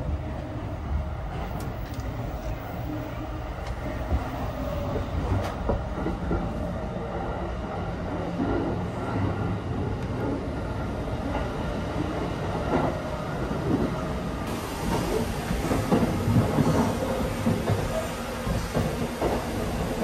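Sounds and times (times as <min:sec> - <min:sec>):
train carriage rumble and hum: 0:00.0 - 0:20.0.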